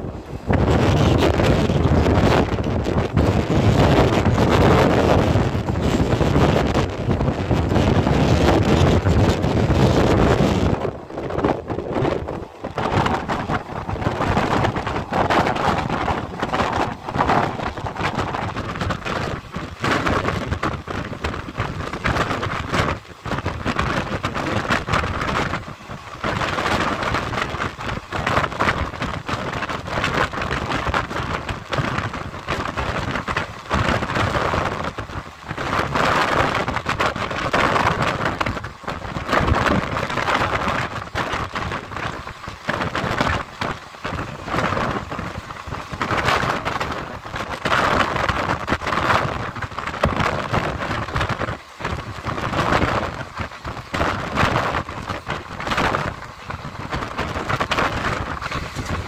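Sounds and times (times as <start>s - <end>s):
train wheels on rails rushing: 0.0s - 59.0s.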